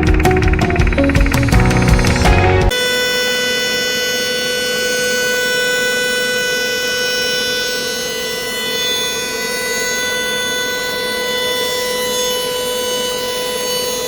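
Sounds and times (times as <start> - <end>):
welding arc buzzing: 0.0 - 14.0.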